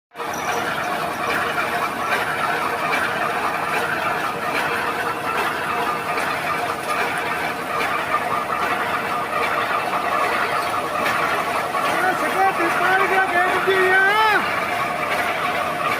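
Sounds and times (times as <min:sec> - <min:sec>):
truck diesel engine clattering: 0:00.2 - 0:15.9.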